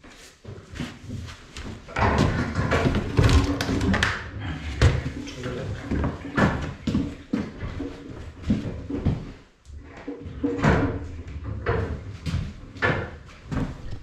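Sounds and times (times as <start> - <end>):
knocks bumps and scrapes: 0.1 - 14.0.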